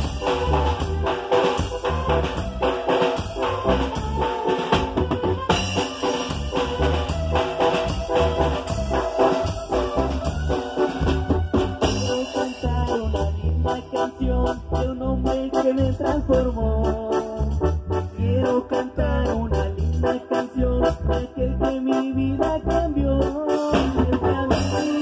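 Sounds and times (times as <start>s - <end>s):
drum kit: 0.0s - 25.0s
electric bass: 0.0s - 25.0s
electronic keyboard: 0.0s - 25.0s.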